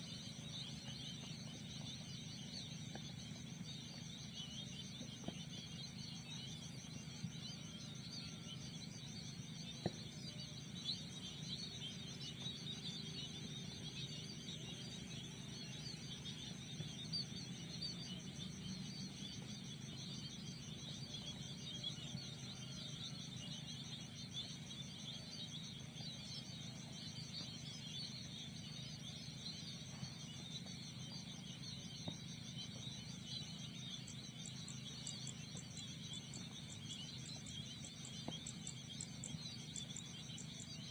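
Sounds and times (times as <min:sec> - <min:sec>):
pulsing insect trill: 0:00.0 - 0:40.9.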